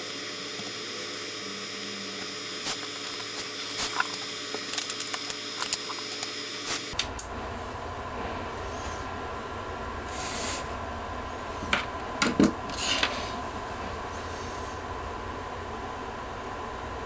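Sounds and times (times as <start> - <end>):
computer fans humming: 0.0 - 17.0.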